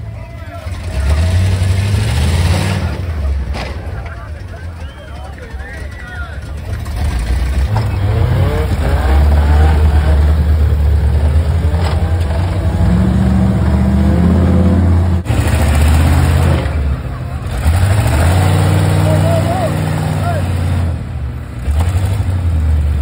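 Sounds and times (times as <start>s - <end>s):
faint voices: 0.0s - 15.2s, 16.6s - 20.7s
off-road vehicle engine revving: 0.0s - 23.0s.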